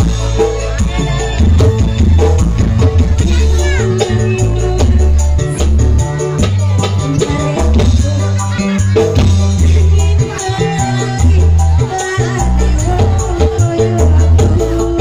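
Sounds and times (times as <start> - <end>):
fast percussion: 0.0 - 15.0
heavy bass line: 0.0 - 15.0
keyboard: 0.0 - 15.0
vocals: 0.0 - 15.0.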